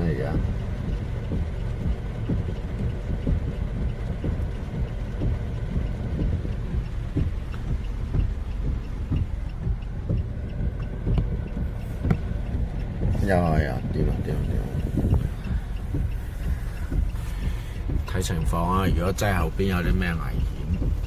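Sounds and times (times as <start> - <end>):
car engine idling: 0.0 - 21.0
faint regular ticking: 0.0 - 21.0
rain drumming on car: 0.0 - 21.0.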